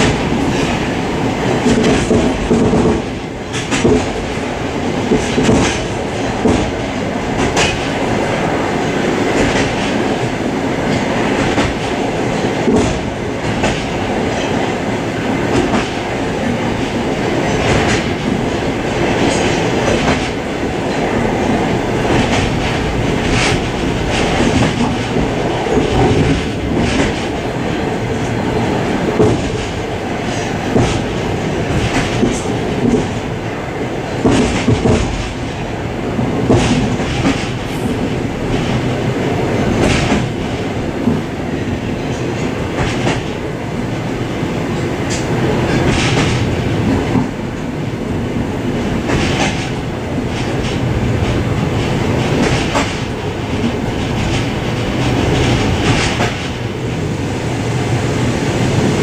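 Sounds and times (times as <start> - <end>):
clack over rail joint: 0.0 - 28.4, 29.1 - 33.3, 34.1 - 35.6, 36.2 - 38.9, 39.6 - 43.4, 44.8 - 47.7, 48.8 - 56.7
train wheels rumbling on rail: 0.0 - 59.0.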